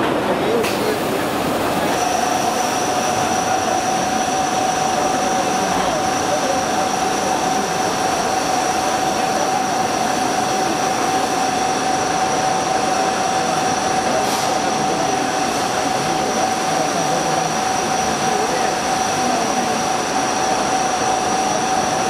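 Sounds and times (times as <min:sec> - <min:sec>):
lathe running with high whine: 0:00.3 - 0:22.0
coolant spray hissing: 0:00.7 - 0:22.0.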